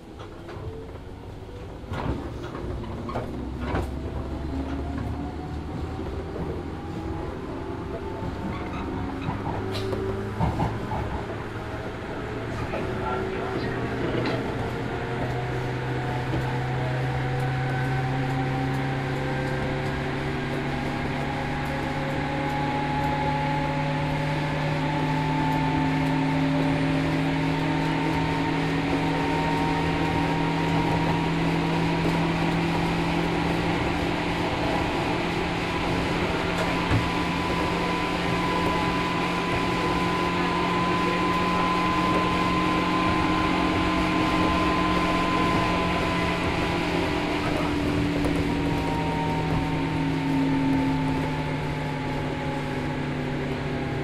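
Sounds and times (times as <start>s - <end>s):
train traction motors whining: 0.0s - 54.0s
wheel and rail noise: 0.0s - 54.0s.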